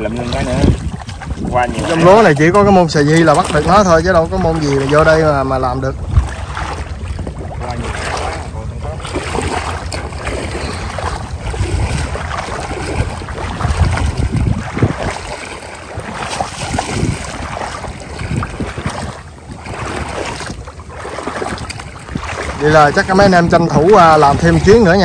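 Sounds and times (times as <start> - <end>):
water splashing and lapping: 0.0 - 25.0
wind buffeting microphone: 0.0 - 25.0.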